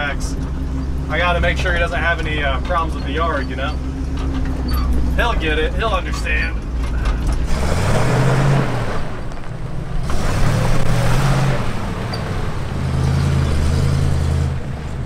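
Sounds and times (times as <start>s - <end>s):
truck engine driving: 0.0s - 15.0s.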